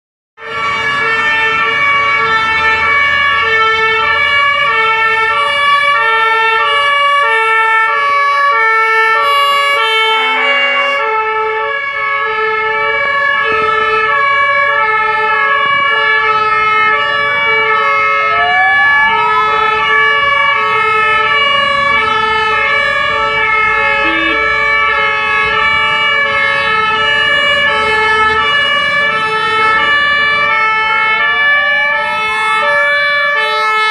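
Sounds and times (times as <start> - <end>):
fire engine two-tone siren: 0.4 - 33.9.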